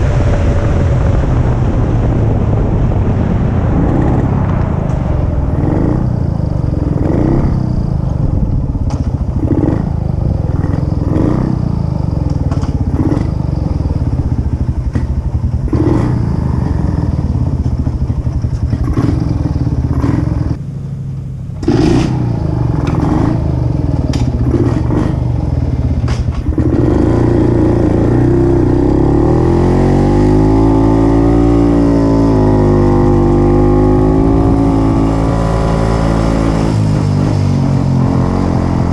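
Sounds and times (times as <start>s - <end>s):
two-stroke motorcycle engine: 5.6s - 38.9s.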